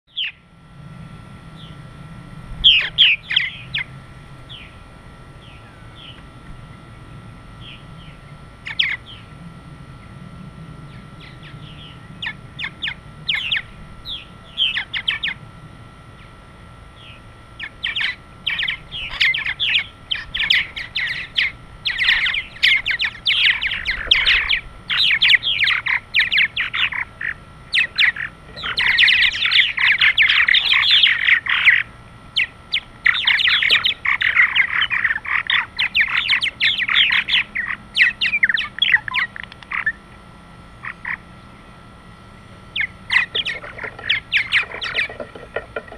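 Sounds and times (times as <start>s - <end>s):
birds chirping and chattering: 0.1s - 0.4s, 1.4s - 1.9s, 2.6s - 45.9s.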